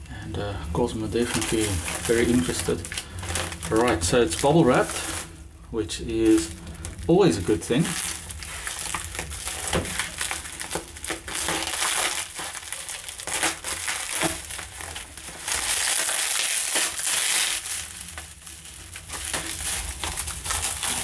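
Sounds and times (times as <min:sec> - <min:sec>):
bubble wrap stretching: 0:00.0 - 0:21.0
bubble wrap crinkling: 0:00.4 - 0:21.0.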